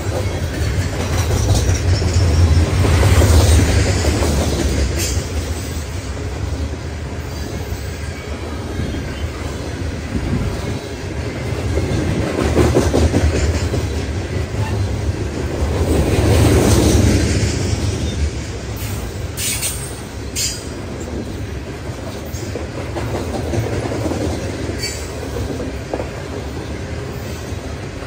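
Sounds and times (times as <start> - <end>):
freight train wheels rumbling: 0.0 - 28.0.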